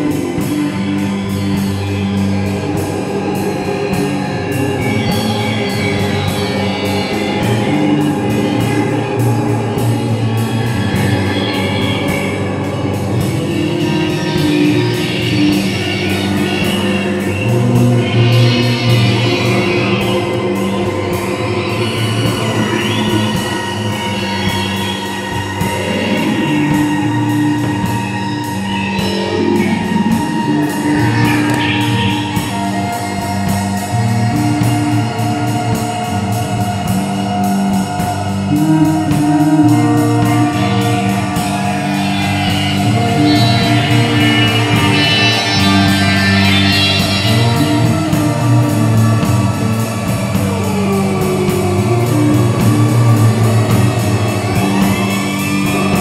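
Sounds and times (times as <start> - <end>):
guitar: 0.0 - 56.0
held bass notes: 0.0 - 56.0.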